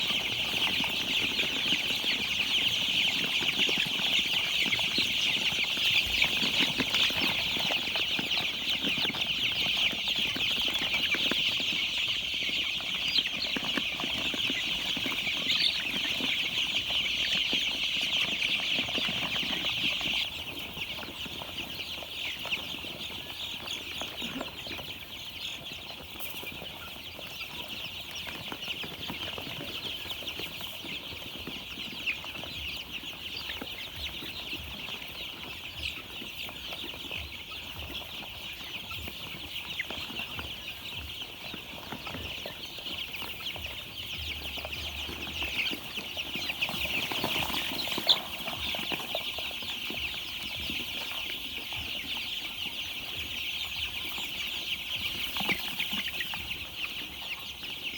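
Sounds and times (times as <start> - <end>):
chicks peeping: 0.0 - 57.9.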